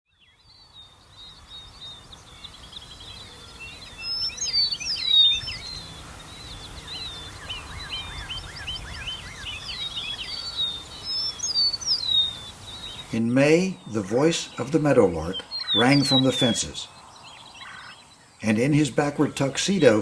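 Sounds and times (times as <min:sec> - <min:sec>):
songbirds chirping and trilling: 0:00.1 - 0:20.0.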